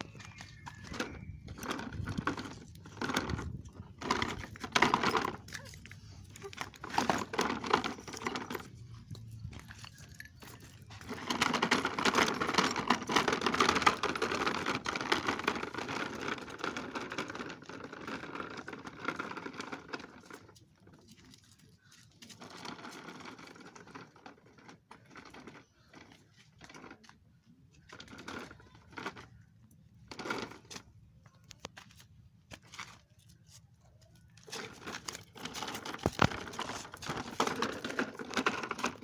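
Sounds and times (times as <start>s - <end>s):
toy truck wheels rattling and scraping: 0.0s - 39.0s.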